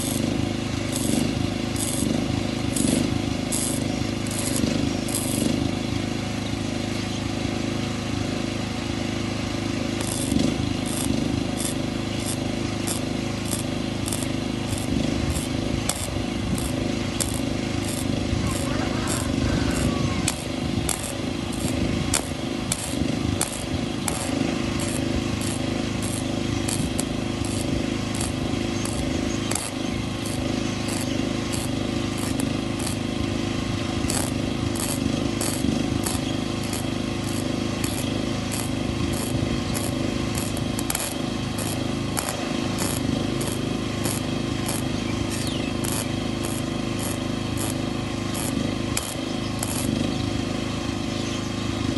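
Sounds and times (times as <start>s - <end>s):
arc welding crackling sizzle: 0.0s - 51.0s
sharp ticks: 0.9s - 5.5s, 10.0s - 33.1s, 33.9s - 50.0s.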